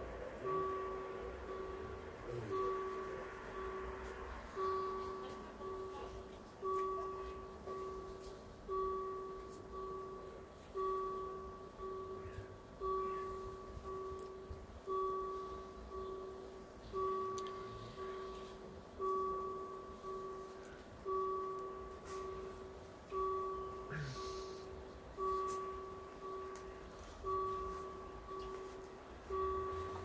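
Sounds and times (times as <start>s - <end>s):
level crossing warning bell: 0.0s - 30.0s.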